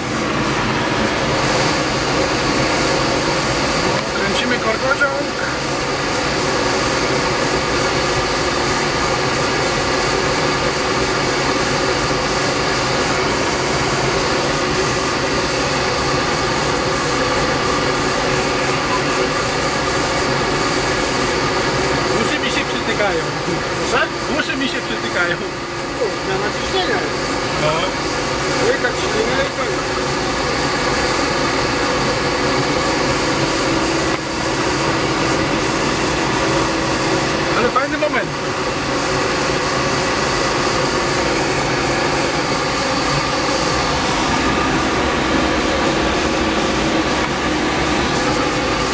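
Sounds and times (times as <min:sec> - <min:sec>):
propeller engine drone: 0:00.0 - 0:48.9.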